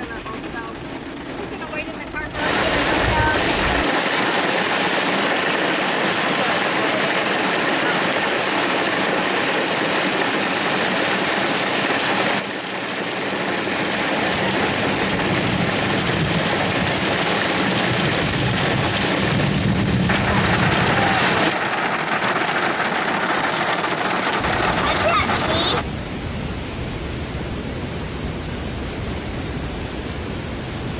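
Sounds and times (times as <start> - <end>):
thunder rumbling: 0.0 - 25.8
heavy rain pouring: 0.0 - 25.9.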